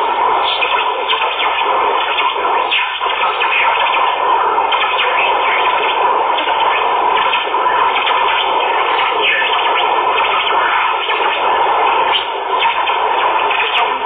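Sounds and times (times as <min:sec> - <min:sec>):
crackle and flutter: 0:00.0 - 0:14.0
radio static hiss: 0:00.0 - 0:14.0.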